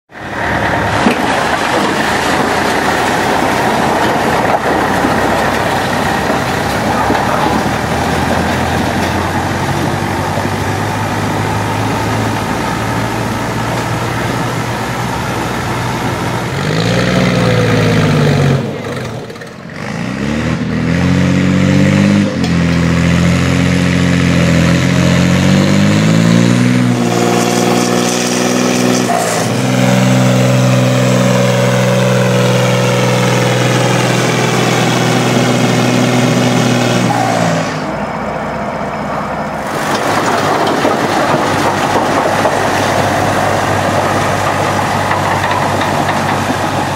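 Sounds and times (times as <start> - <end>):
tractor engine labouring: 0.1 - 46.9.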